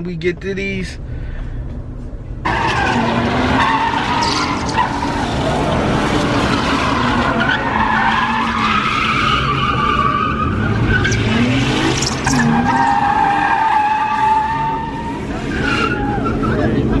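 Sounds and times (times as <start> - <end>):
car engine revving: 2.4 - 17.0
car tyres squealing: 2.4 - 17.0.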